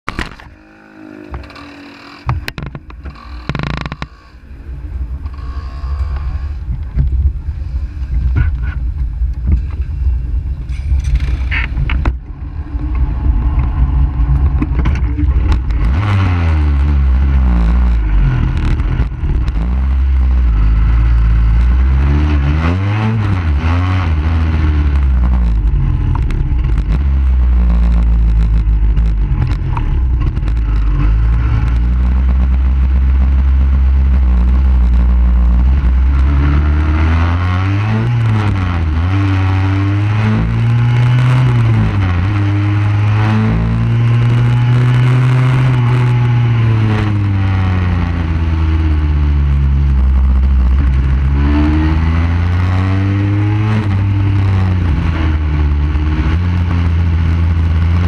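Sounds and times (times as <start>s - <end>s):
motorcycle engine revving: 0.1s - 8.9s, 10.9s - 58.0s.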